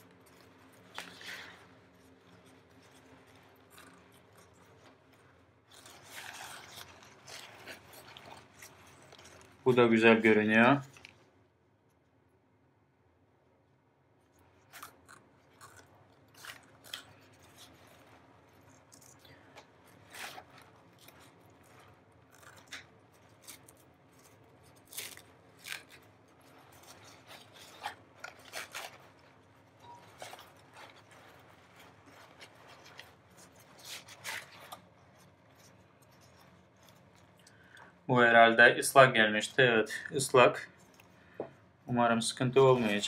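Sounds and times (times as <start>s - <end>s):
paper towel rustling: 0.0s - 11.2s, 16.2s - 43.0s.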